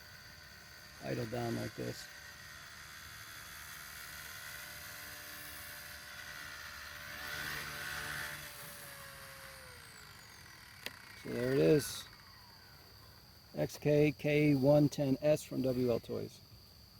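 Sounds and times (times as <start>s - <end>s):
rc helicopter rotor whirring: 0.0s - 13.9s.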